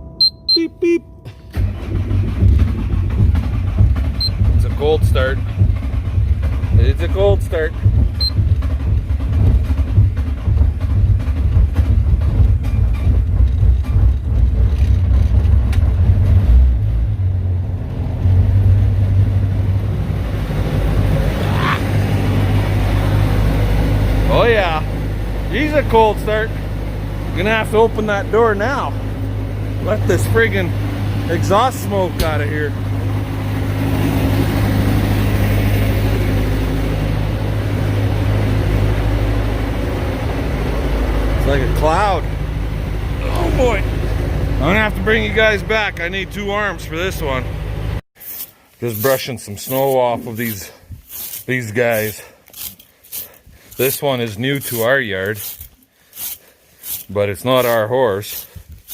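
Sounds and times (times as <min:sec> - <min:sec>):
diesel engine clattering: 0:00.0 - 0:48.1.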